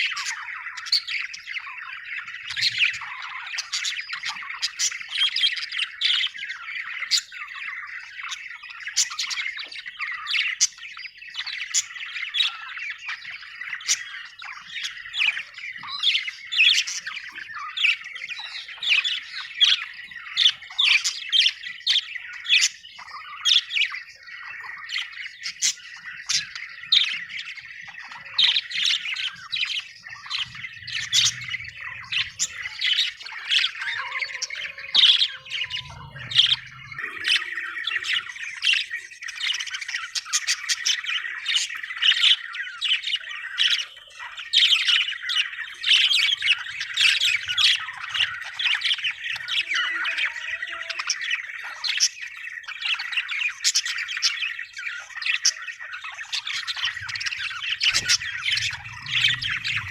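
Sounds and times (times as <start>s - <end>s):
budgerigars chirping and squawking: 0.0s - 59.9s.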